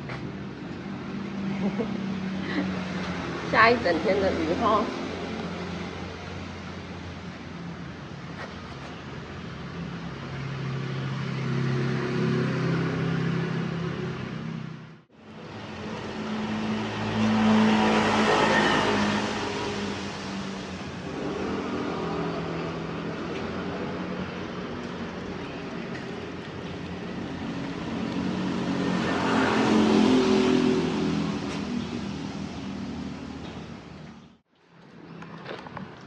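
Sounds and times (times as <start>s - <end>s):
cars passing on a wet road: 0.0s - 36.0s.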